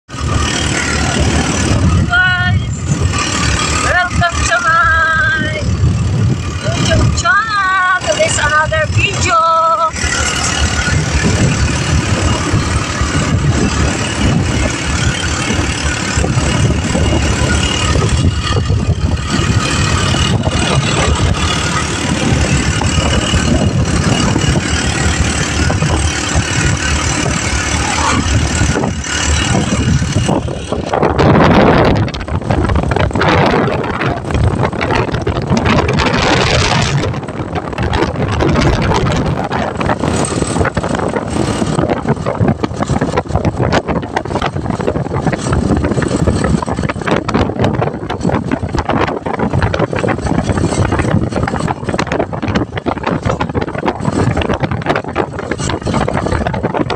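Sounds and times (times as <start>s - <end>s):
motorcycle engine running: 0.1s - 56.9s
wind buffeting microphone: 0.1s - 56.9s.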